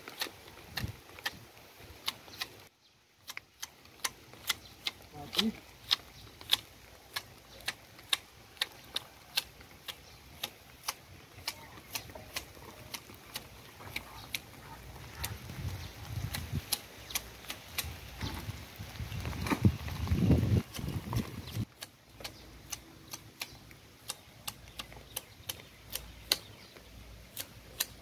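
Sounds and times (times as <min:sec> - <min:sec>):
hedge shears snipping: 0:00.0 - 0:01.4, 0:03.2 - 0:18.4, 0:20.6 - 0:26.7, 0:27.3 - 0:28.0.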